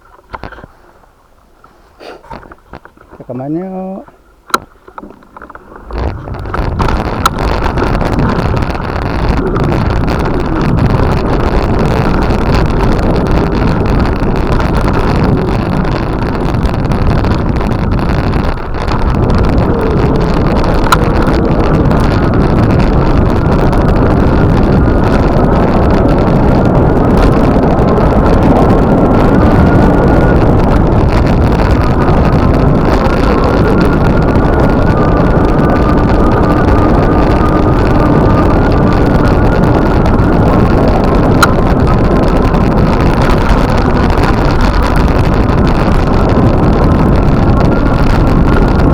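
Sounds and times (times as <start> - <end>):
rumble of travel: 0.0 - 48.9
wind rushing over microphone: 0.0 - 48.9.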